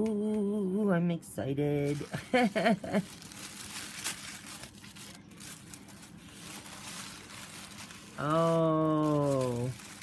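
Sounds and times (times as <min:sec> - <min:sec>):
tissue paper rustling and crinkling: 0:01.8 - 0:10.0.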